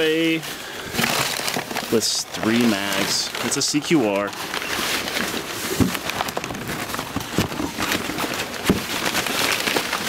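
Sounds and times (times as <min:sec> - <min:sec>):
packaging crackling rustle: 0:00.0 - 0:10.0.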